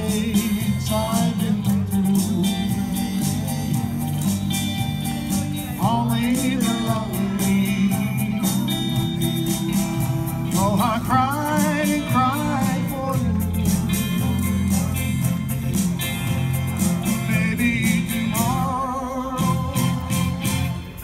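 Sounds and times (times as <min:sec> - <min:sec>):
live pop-rock music: 0:00.0 - 0:21.0.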